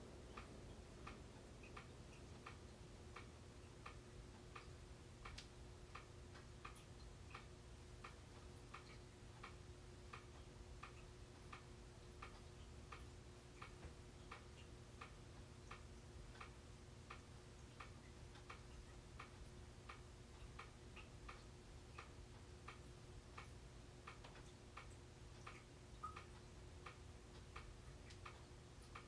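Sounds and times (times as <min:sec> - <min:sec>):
ceiling fan hum: 0:00.0 - 0:29.0
fan ticking: 0:00.0 - 0:29.0.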